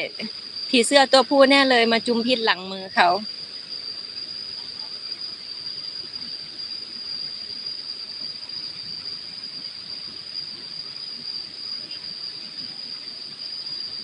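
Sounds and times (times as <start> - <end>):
faint hiss: 0.0 - 14.0
insects droning high-pitched: 0.0 - 14.0.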